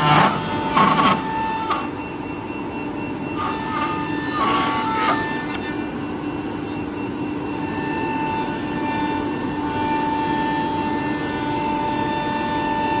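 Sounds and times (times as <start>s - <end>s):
cnc router humming and whining: 0.0s - 13.0s.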